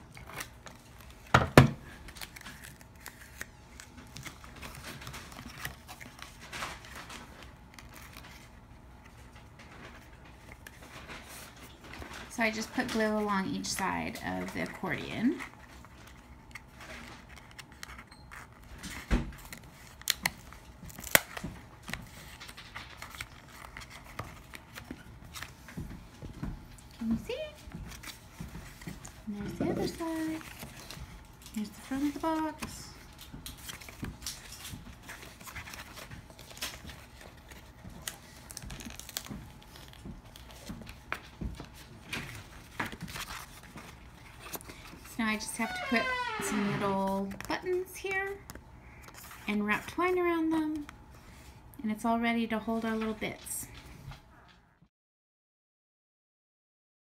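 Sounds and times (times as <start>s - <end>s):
cardstock and craft items handled: 0.0s - 45.7s, 46.4s - 54.5s
paper rustling: 0.0s - 45.7s.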